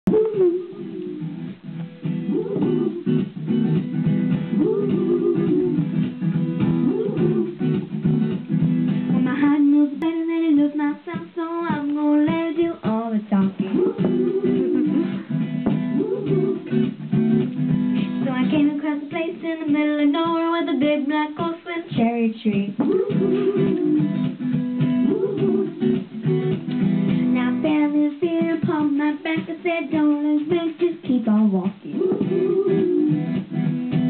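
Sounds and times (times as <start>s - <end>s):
strummed acoustic guitar: 0.2s - 9.5s, 11.1s - 31.0s, 31.8s - 34.0s.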